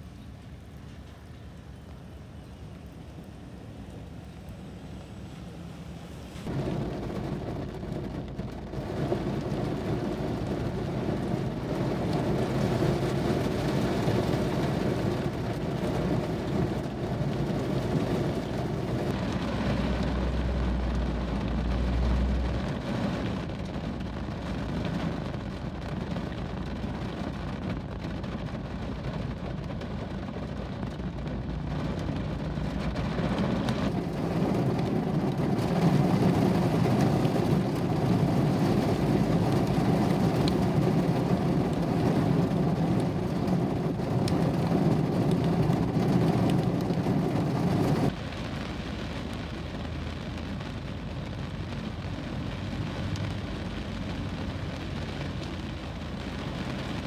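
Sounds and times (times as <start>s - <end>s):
heavy rain on a car: 0.0s - 57.0s.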